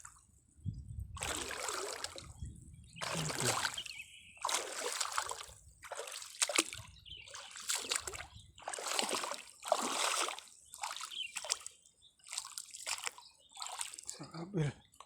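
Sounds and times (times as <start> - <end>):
water splashing and sloshing: 1.0 - 14.3.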